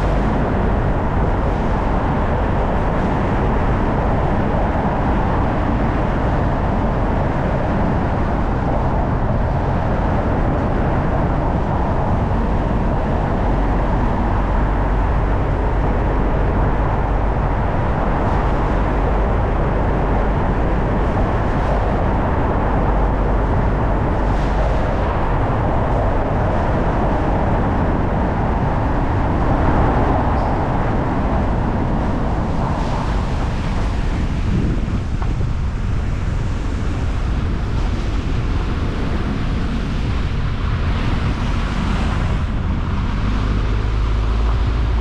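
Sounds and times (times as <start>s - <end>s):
tyres on road: 0.0s - 45.0s.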